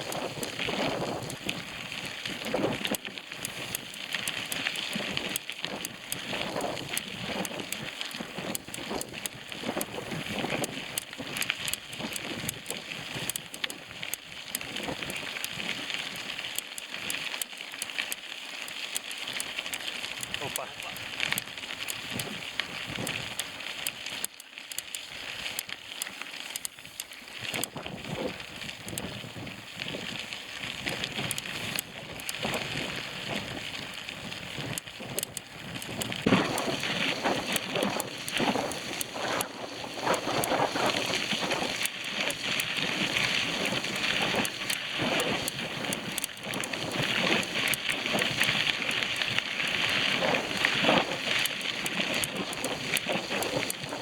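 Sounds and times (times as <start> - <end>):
bicycle tyres crunching on dirt: 0.0 - 54.0.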